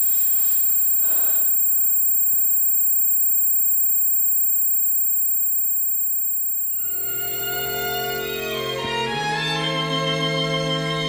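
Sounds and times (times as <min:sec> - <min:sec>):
high-pitched sine tone: 0:00.0 - 0:08.9.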